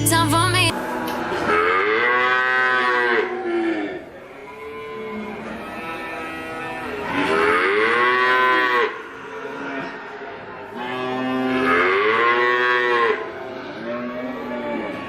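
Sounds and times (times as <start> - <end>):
cow mooing: 1.4 - 10.0, 10.8 - 15.0.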